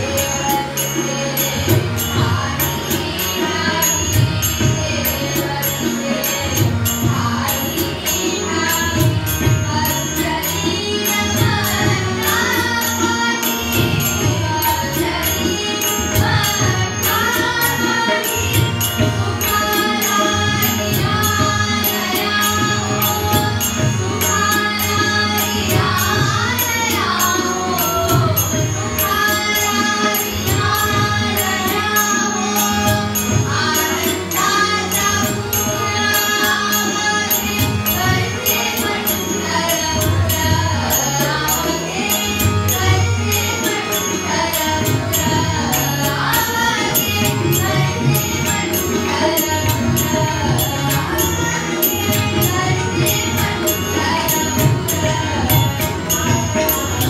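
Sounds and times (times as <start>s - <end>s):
harmonium: 0.0s - 57.0s
tabla beat: 0.0s - 57.0s.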